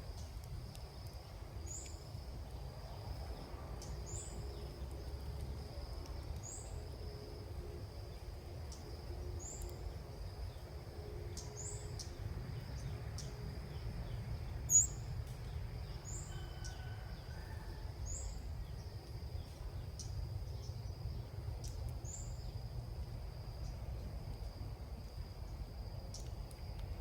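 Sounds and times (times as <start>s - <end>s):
high insect drone: 0.0s - 27.0s
low outdoor rumble: 0.0s - 27.0s.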